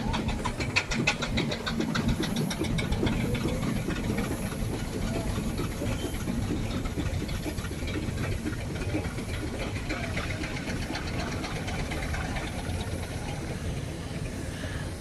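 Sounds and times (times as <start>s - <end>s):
steam engine chuffing: 0.0s - 15.0s
steam hissing: 0.0s - 15.0s.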